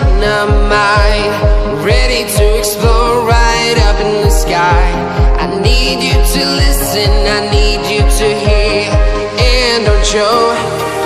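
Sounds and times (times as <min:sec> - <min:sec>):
music with deep kick drum: 0:00.0 - 0:10.4.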